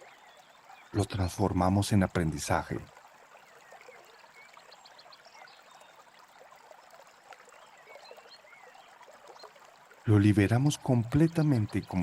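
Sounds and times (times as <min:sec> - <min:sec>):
faint babbling brook: 0:00.0 - 0:12.0.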